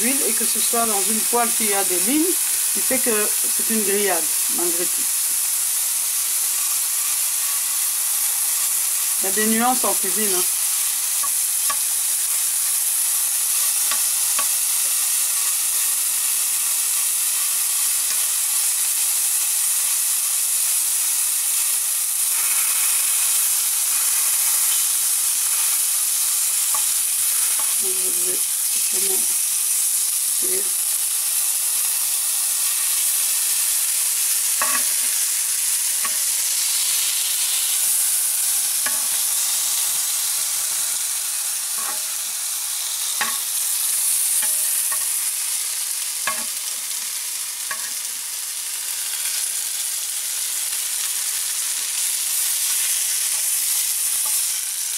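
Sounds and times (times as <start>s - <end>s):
food sizzling in grill pan: 0.0s - 54.9s.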